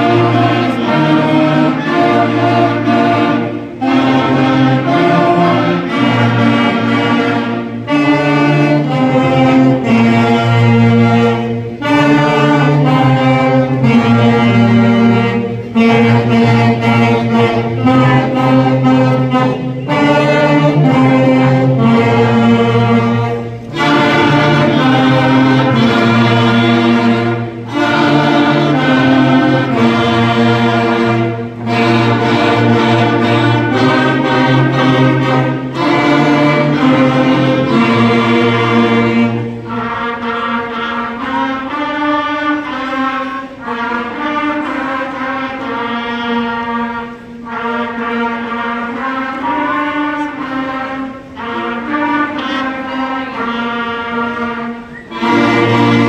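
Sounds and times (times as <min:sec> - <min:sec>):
concert band playing: 0:00.0 - 0:56.0.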